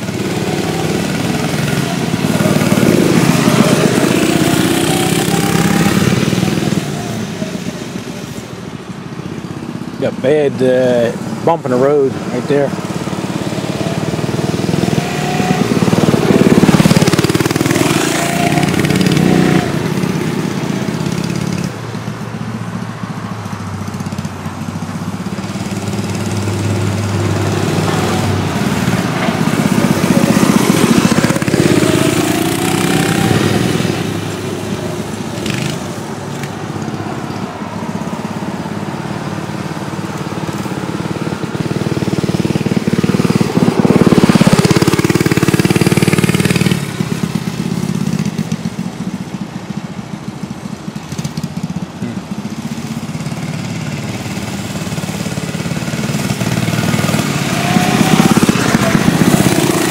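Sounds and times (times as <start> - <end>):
mini bike engine revving: 0.0 - 22.8, 23.8 - 59.9.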